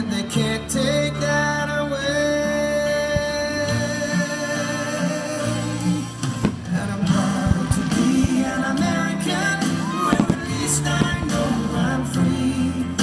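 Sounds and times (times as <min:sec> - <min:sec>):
country guitar: 0:00.0 - 0:13.0
steady bass line: 0:00.0 - 0:13.0.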